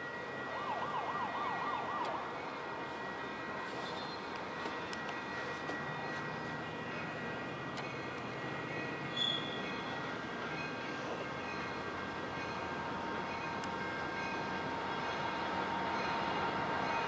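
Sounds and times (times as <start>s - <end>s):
freight train rumble: 2.2s - 17.0s.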